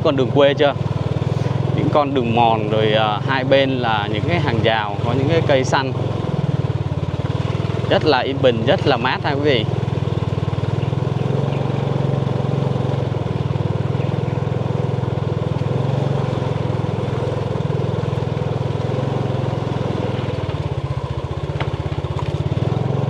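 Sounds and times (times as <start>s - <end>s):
small motorbike engine running: 0.0s - 23.0s.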